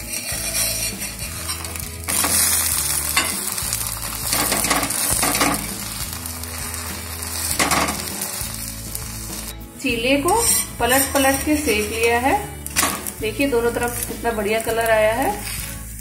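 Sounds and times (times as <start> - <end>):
metal spatula scraping: 0.0 - 9.6, 10.2 - 15.9
batter sizzling in oil: 0.0 - 16.0.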